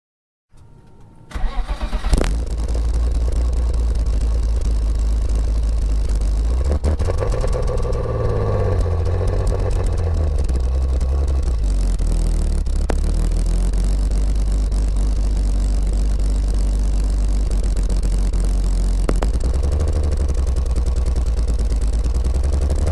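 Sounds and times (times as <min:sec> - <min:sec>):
car engine starting and running: 0:00.5 - 0:22.9.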